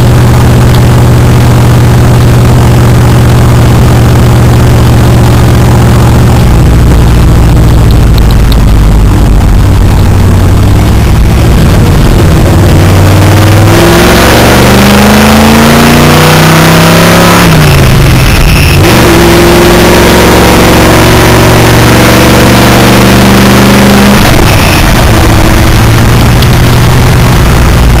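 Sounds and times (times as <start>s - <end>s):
pickup engine accelerating: 0.0s - 28.0s
wind and road noise: 0.0s - 28.0s.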